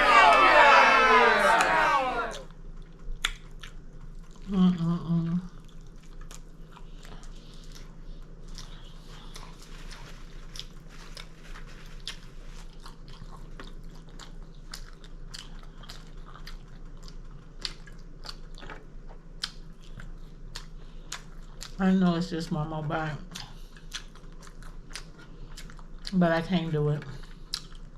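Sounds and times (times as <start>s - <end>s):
chewing food: 0.6s - 27.9s.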